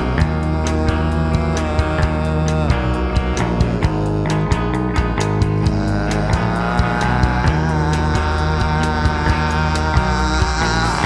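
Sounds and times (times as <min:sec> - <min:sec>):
guitar: 0:00.0 - 0:11.0
rock music: 0:00.0 - 0:11.0.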